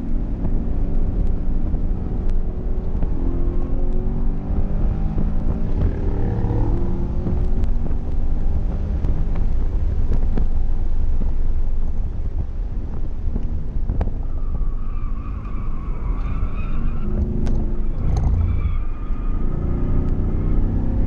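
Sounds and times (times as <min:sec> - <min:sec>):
wind and tyre rumble: 0:00.0 - 0:21.0.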